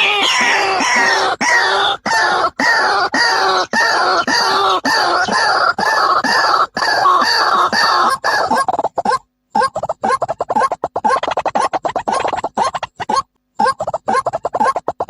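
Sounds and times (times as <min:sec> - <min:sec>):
bird harsh calls: 0:00.0 - 0:15.0.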